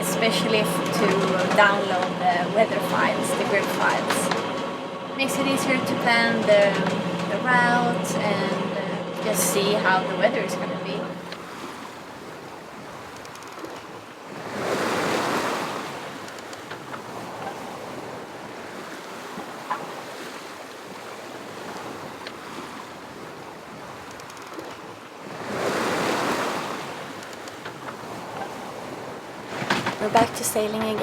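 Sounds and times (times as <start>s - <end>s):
water rushing along a hull: 0.0s - 31.0s
waves washing past: 0.0s - 31.0s.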